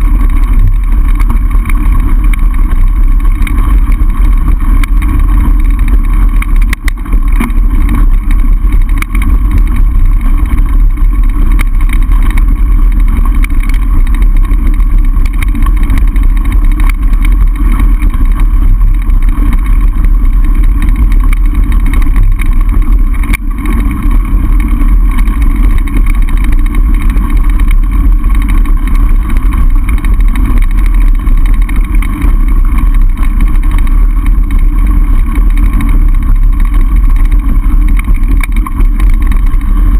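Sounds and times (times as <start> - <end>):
bike rattling over trail: 0.0 - 39.9.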